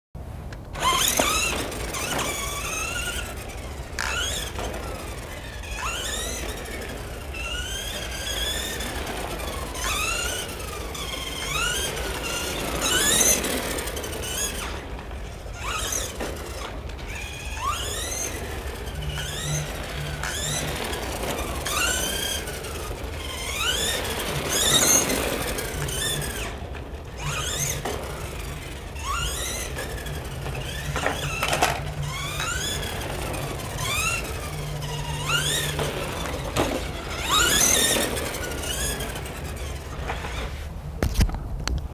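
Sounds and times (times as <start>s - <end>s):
toy truck electric motor whining: 0.7s - 41.2s.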